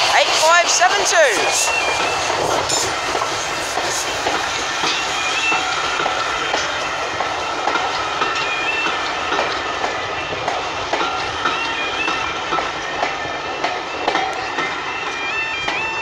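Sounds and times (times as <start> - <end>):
train wheels rumbling and clicking: 0.0 - 16.0.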